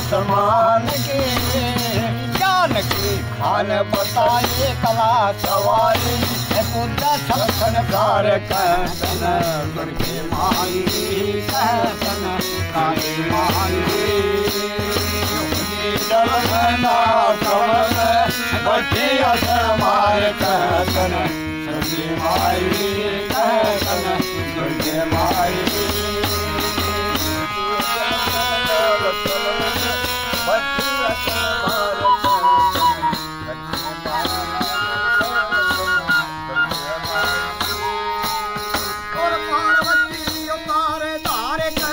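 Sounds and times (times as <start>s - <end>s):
hand drum: 0.0s - 41.9s
harmonium: 0.0s - 41.9s
man singing: 0.0s - 41.9s.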